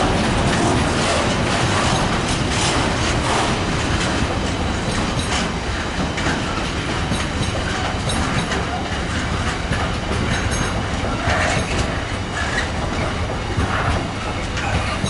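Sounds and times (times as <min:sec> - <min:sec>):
train wheels rumbling on rails: 0:00.0 - 0:15.0
wheels clacking over rail joints: 0:00.0 - 0:15.0.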